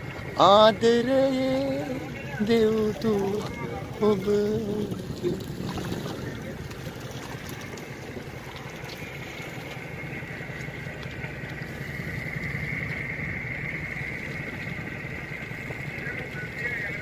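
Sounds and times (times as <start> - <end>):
boat engine idling: 0.0 - 17.0
high steady whine: 0.0 - 17.0.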